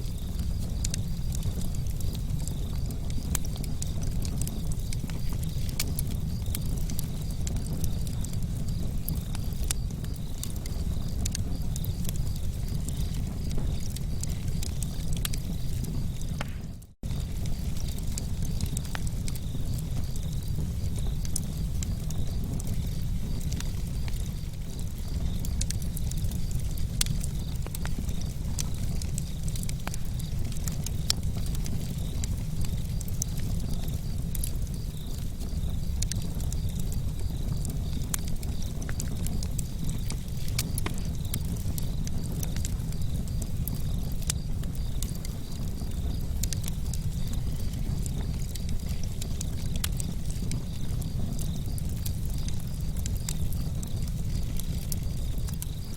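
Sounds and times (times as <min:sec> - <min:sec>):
campfire crackling and popping: 0:00.0 - 0:55.9
low fire rumble: 0:00.0 - 0:55.9.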